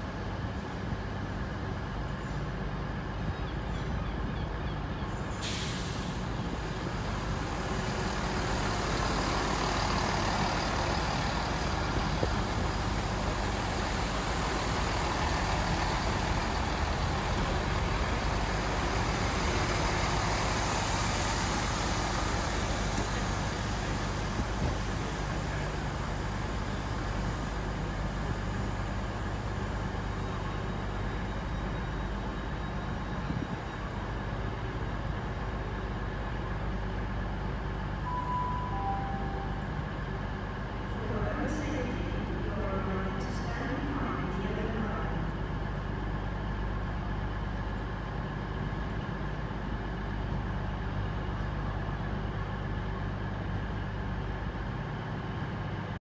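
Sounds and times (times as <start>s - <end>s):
train wheel and rail noise: 0.0s - 56.0s
diesel engines humming: 0.1s - 56.0s.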